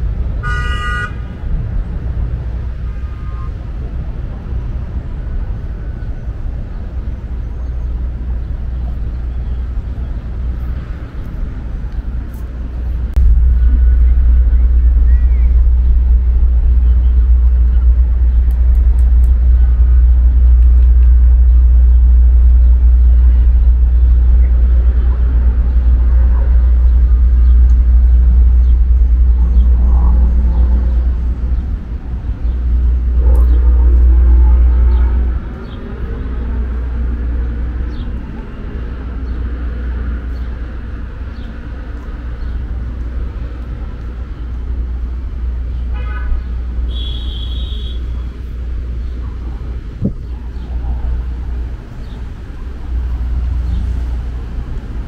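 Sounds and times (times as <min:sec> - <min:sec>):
low city rumble: 0:00.0 - 0:55.0
street noise hiss: 0:00.0 - 0:55.0.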